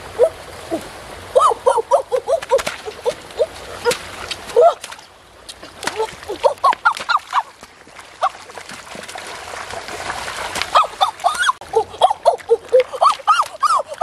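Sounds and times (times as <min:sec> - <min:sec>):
water splashing in stream: 0:00.0 - 0:14.0.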